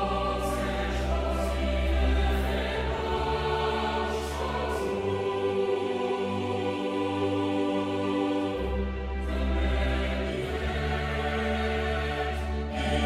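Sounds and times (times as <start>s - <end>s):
choral voices: 0.0s - 13.0s.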